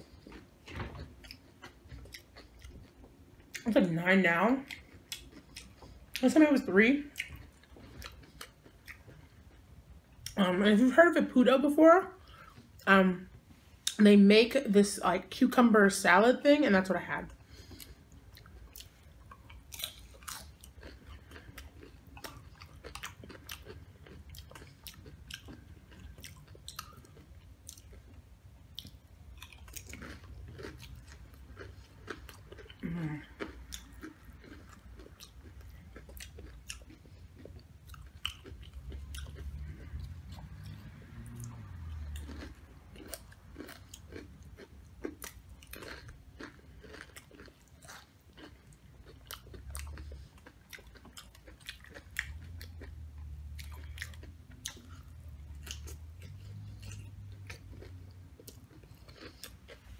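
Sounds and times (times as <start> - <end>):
chewing crunchy chips: 0.0 - 10.9, 17.2 - 59.9.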